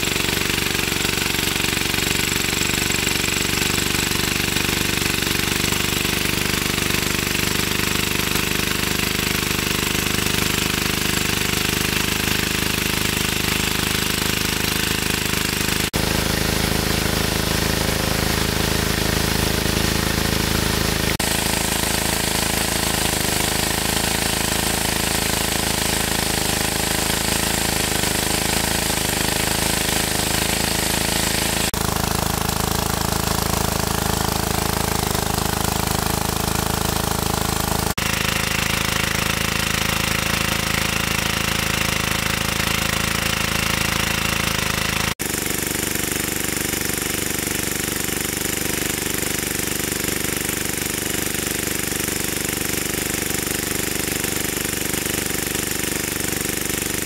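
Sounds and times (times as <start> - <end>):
engine-driven water pump running: 0.0 - 57.0.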